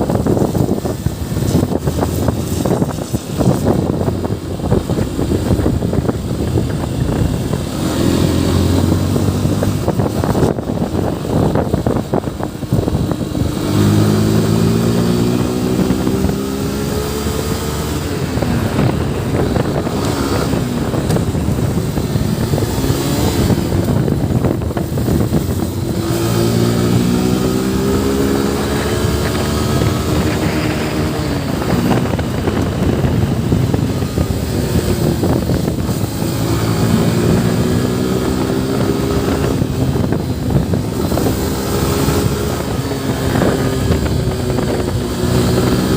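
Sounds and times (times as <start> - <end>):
motorcycle engine accelerating: 0.0 - 45.9
road and wind noise: 0.0 - 45.9.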